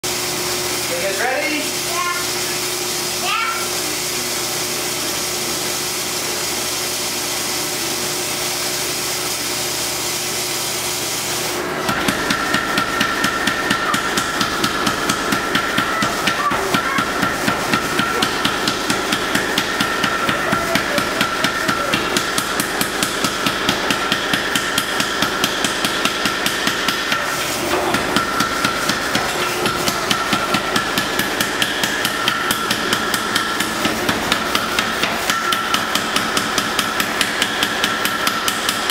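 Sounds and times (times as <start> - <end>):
power hammer pounding hot steel: 0.0 - 38.9.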